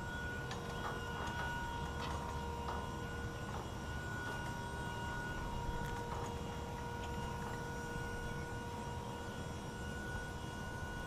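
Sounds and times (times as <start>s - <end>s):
hydraulic drive whine: 0.0s - 11.0s.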